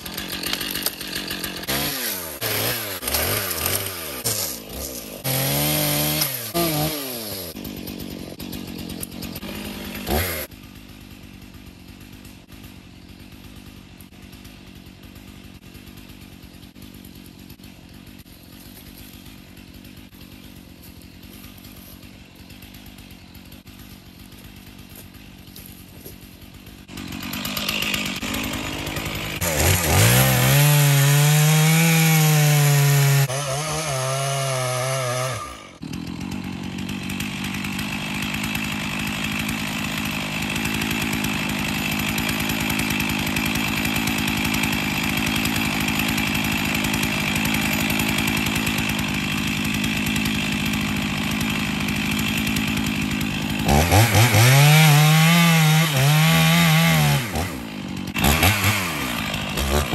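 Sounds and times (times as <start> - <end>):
chainsaw cutting wood: 0.0 - 59.9
chainsaw idling: 0.0 - 59.9.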